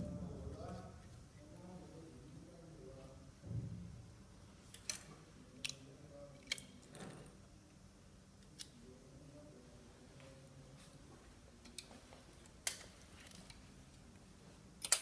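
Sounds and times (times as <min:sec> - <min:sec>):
faint low background noise: 0:00.0 - 0:15.0.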